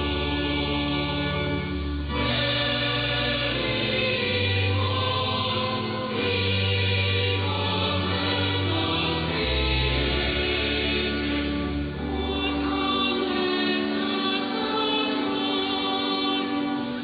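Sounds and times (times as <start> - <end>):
choir singing over muffled radio: 0.0 - 17.0.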